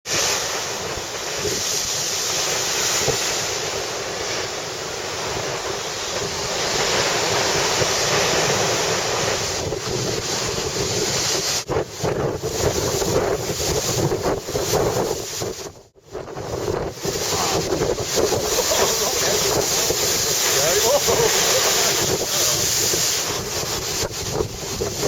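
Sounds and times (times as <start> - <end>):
storm surf: 0.0 - 25.0
wind buffeting microphone: 0.1 - 25.0.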